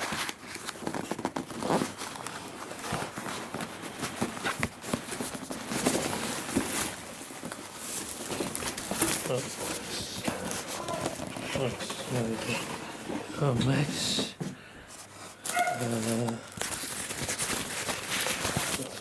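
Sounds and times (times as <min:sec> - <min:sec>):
cardboard packaging rustling: 0:00.0 - 0:19.0.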